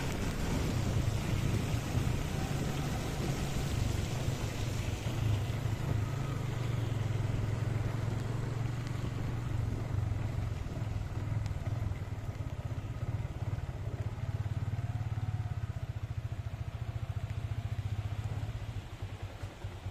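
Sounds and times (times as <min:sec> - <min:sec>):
motorcycle engine: 0:00.0 - 0:19.9
tyres hissing on wet road: 0:00.0 - 0:19.9.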